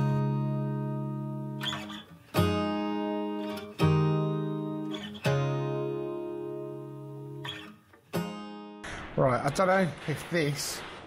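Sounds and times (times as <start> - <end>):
acoustic guitar chords ringing: 0.0 - 8.9.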